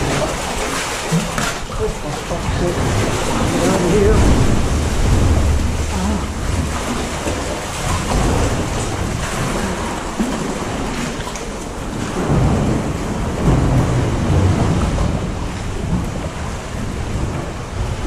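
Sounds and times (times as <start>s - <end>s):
sea water sloshing against rock: 0.0s - 18.0s
deep rumble of surge: 2.2s - 18.0s.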